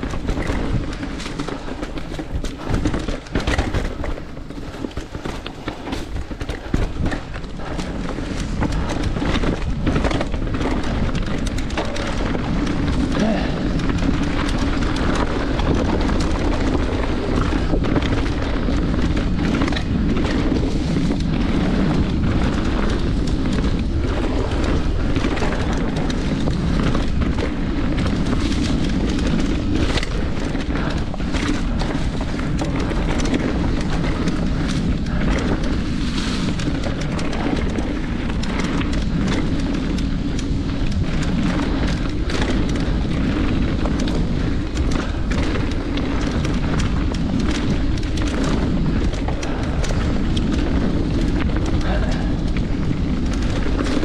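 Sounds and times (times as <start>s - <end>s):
bike rattling over rocks: 0.0s - 54.0s
wind rumble: 0.0s - 54.0s.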